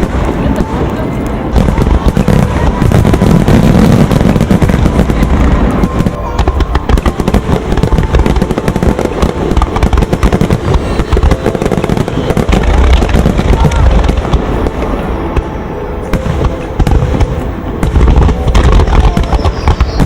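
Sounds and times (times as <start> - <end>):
deep fireworks booms: 0.0 - 20.0
fireworks bangs and crackles: 0.0 - 20.0.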